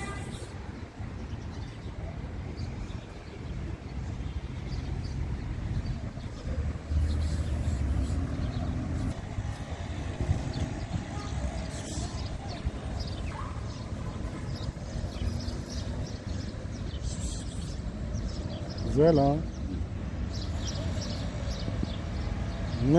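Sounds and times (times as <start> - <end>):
distant traffic rumble: 0.0 - 22.9.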